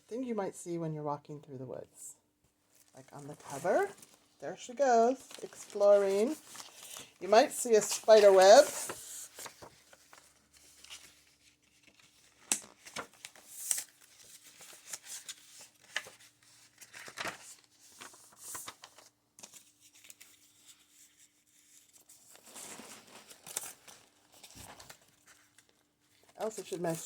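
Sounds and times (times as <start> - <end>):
paper pages rustling: 2.7 - 27.0.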